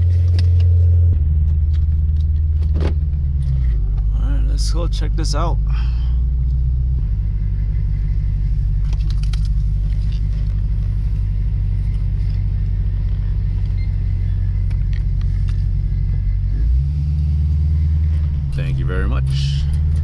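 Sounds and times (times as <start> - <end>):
car engine rumbling at low revs: 0.0 - 20.0.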